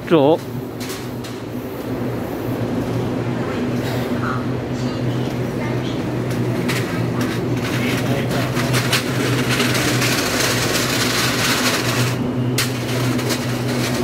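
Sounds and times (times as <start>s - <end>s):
electric train equipment hum: 0.0s - 14.0s.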